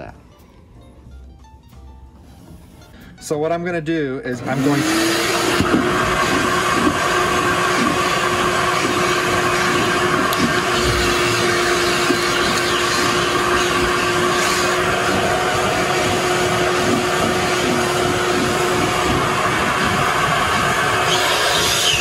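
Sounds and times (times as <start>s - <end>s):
electric blower running: 4.3s - 22.0s.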